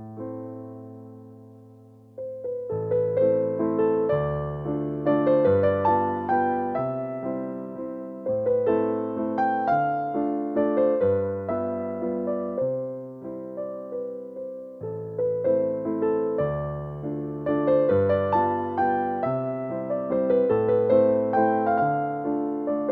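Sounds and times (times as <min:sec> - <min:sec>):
gentle piano melody: 0:00.0 - 0:22.9.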